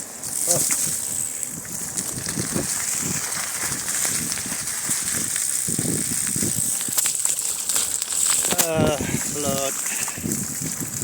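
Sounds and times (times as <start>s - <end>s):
wheels splashing through water: 0.0s - 11.0s.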